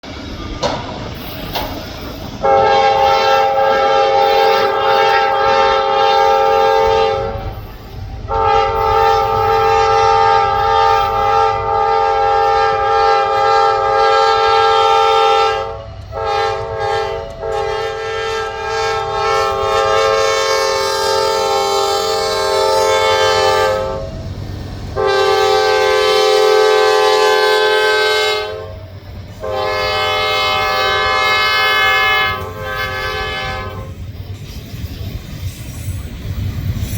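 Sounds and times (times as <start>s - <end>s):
locomotive air horn chord: 2.4s - 7.6s, 8.2s - 24.3s, 24.9s - 34.0s.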